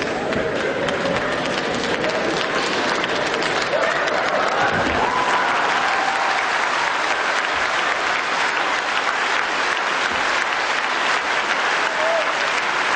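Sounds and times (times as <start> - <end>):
crowd applauding: 0.0 - 12.9.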